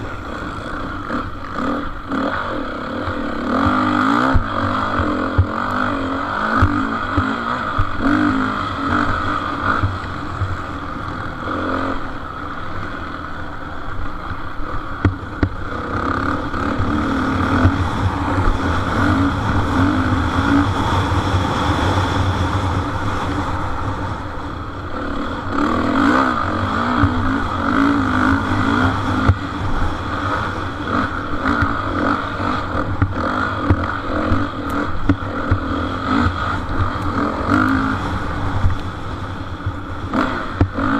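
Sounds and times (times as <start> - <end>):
motorcycle engines revving: 0.0 - 40.9.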